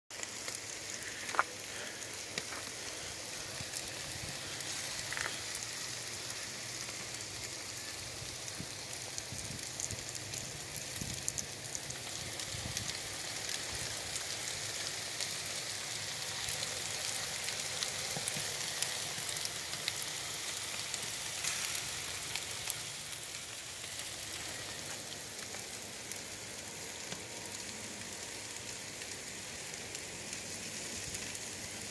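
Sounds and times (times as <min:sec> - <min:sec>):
chicken sizzling on grill: 0:00.1 - 0:31.9.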